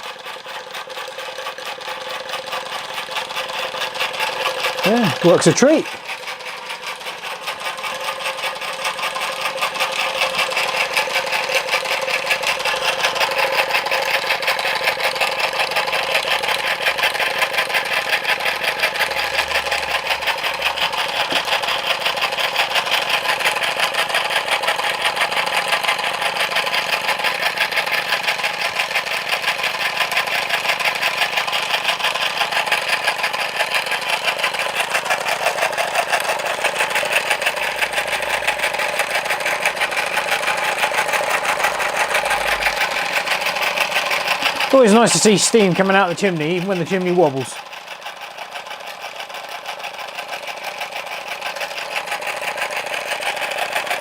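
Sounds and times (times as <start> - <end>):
gears rattling: 0.0 - 49.5
toy steam engine running: 0.0 - 54.0.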